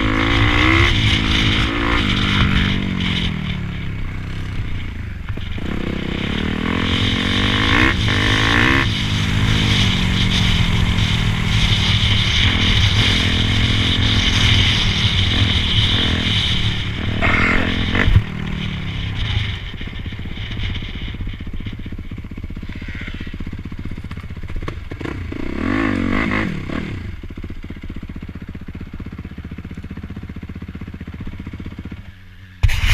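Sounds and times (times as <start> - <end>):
dirt bike engines revving: 0.0 - 27.4.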